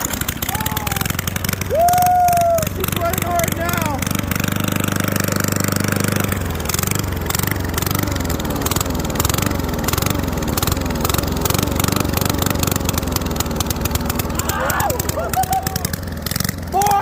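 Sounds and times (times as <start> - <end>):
lawn mower engine surging: 0.0 - 17.0.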